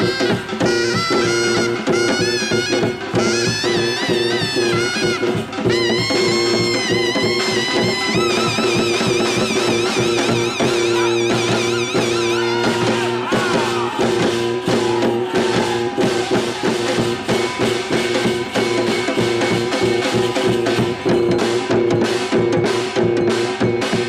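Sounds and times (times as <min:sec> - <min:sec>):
fast steady drumming: 0:00.0 - 0:24.0.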